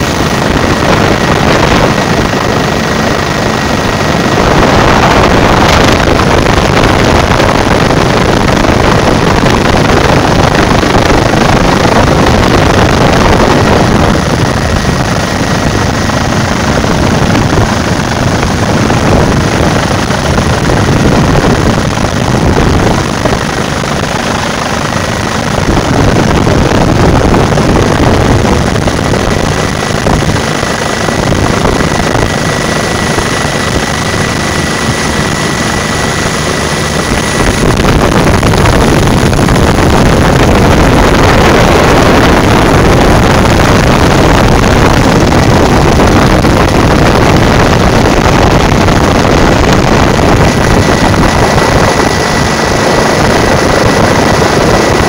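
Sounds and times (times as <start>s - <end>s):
faint steady whine: 0.0s - 55.0s
helicopter engine and rotor noise: 0.0s - 55.0s.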